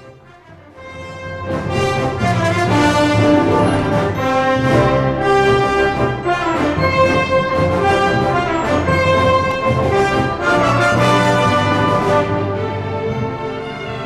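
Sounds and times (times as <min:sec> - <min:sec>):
orchestral music with brass: 0:00.0 - 0:14.0.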